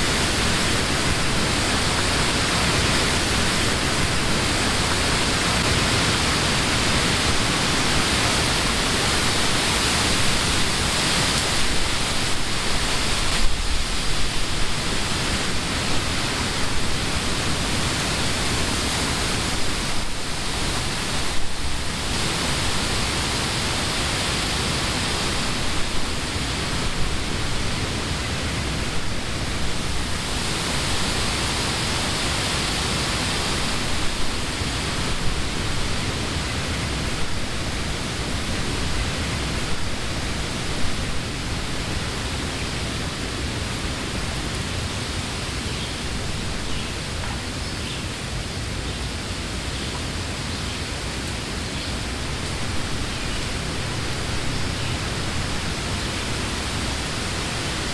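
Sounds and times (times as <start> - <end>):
wind rustling leaves: 0.0 - 57.9.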